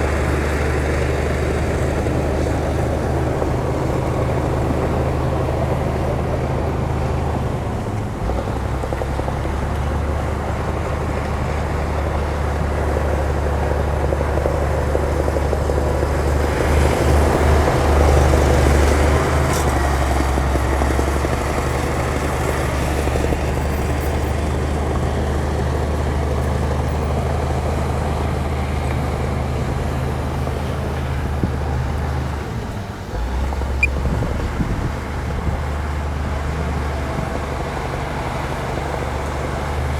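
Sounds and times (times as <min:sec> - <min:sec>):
heavy diesel engine drone: 0:00.0 - 0:39.9.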